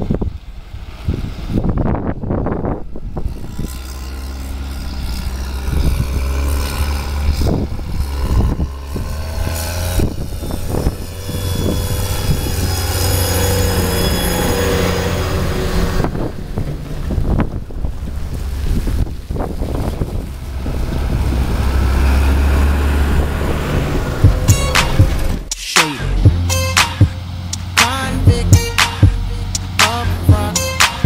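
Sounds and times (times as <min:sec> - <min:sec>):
wind buffeting microphone: 0:00.0 - 0:25.5
tractor diesel engines droning: 0:00.0 - 0:31.0.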